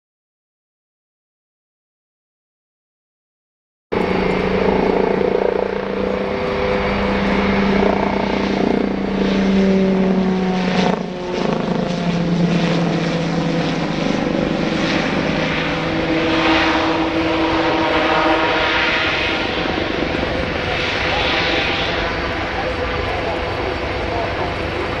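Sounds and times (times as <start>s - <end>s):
helicopter whining loudly: 3.9s - 25.0s.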